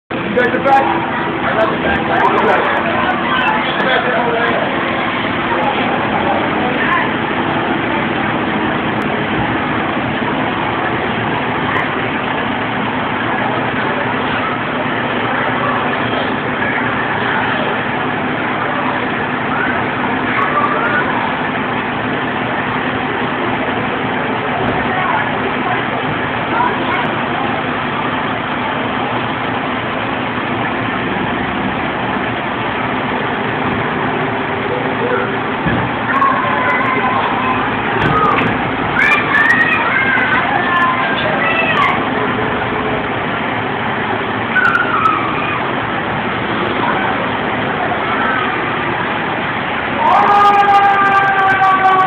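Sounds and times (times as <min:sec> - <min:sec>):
fire engine diesel engine running: 0:00.0 - 0:52.0.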